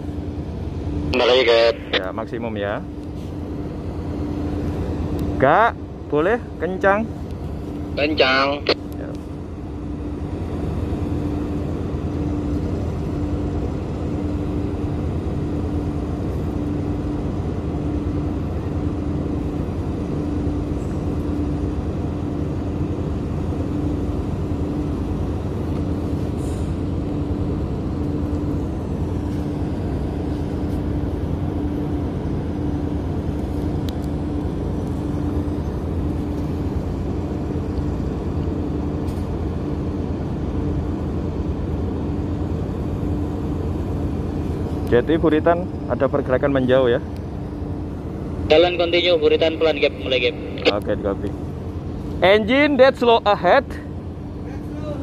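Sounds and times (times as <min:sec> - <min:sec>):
diesel engine rumble: 0:00.0 - 0:52.6.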